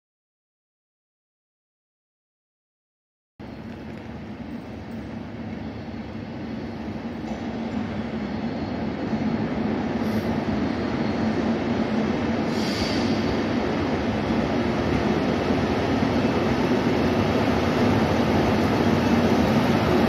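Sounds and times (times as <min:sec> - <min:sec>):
train rumble: 0:03.4 - 0:20.0.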